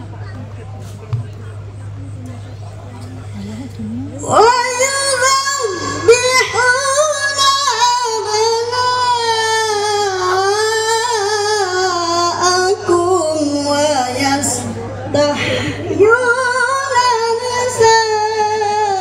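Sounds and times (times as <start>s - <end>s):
woman chanting over loudspeaker: 3.4s - 19.0s.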